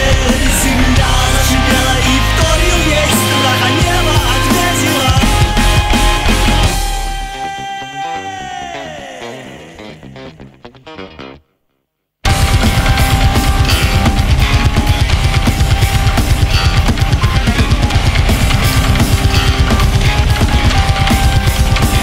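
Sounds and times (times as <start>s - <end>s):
heavy rock music: 0.0s - 11.3s, 12.2s - 22.0s.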